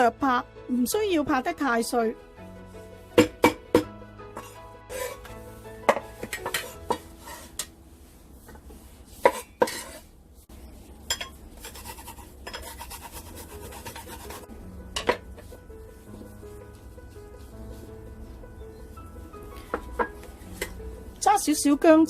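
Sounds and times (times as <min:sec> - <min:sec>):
soft background music: 0:00.0 - 0:10.0, 0:11.8 - 0:22.0.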